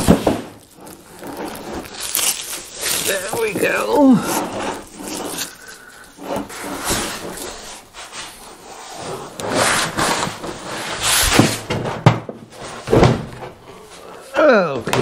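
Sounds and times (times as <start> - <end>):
laminate sheet rustling and scraping: 0.0 - 15.0.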